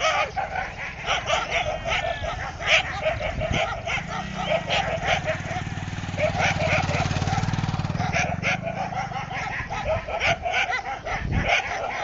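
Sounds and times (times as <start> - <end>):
dogs barking and yipping: 0.0 - 12.0
motorcycle engine: 1.1 - 11.0.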